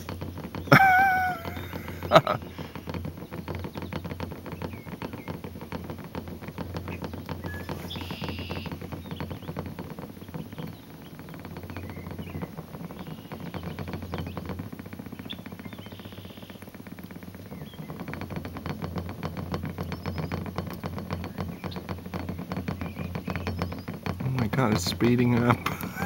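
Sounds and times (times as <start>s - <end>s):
birds chirping: 0.0s - 26.0s
glass bottle rattling on metal roof: 0.0s - 26.0s
low steady hum: 0.0s - 26.0s.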